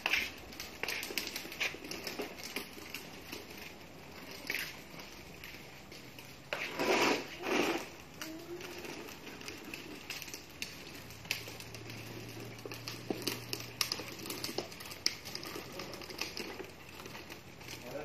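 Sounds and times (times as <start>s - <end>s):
clicks and crackles: 0.0s - 18.0s
plastic wheels rolling on concrete: 0.0s - 18.0s.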